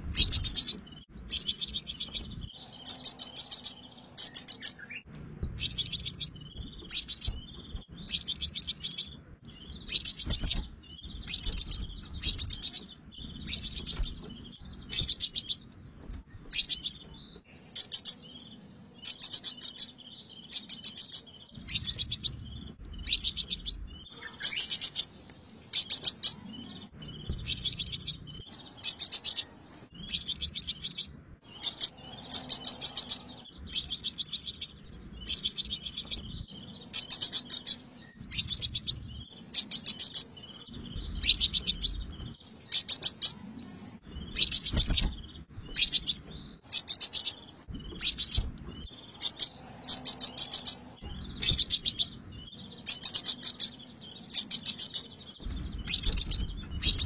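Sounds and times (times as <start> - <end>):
sunbird twittering trills: 0.0 - 57.0.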